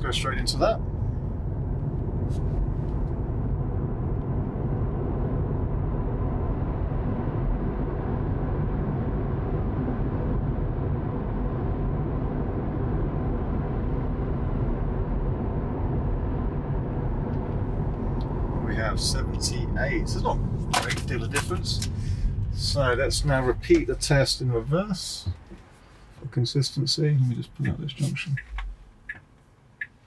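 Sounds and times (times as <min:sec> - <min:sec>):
car road and wind noise: 0:00.0 - 0:26.8, 0:27.4 - 0:30.0.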